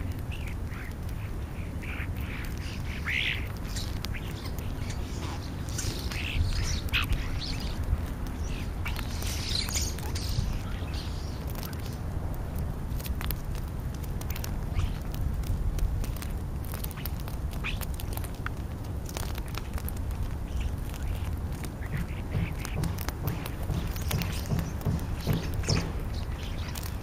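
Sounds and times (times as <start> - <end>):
starlings chattering and whistling: 0.0 - 12.1, 14.2 - 15.1, 16.7 - 18.2, 19.2 - 27.0
steady low rumble: 0.0 - 27.0.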